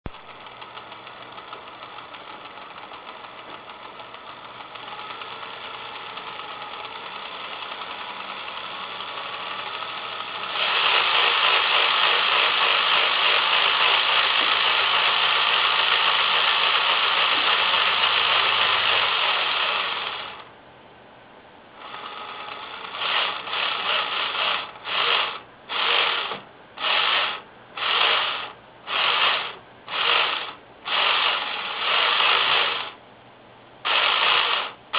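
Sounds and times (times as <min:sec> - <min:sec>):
dot-matrix printer buzzing: 0:01.3 - 0:20.5, 0:21.8 - 0:33.0, 0:33.8 - 0:34.9.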